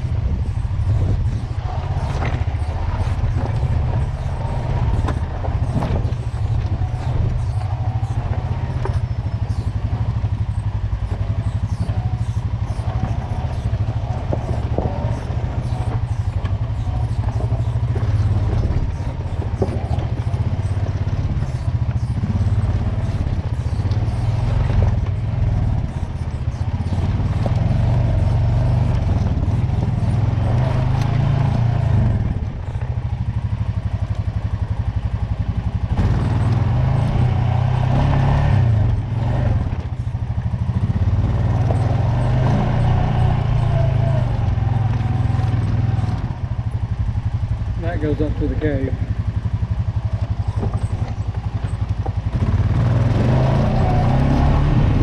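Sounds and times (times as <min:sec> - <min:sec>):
clatter from rough ground: 0:00.0 - 0:55.0
off-road vehicle engine running: 0:00.0 - 0:55.0.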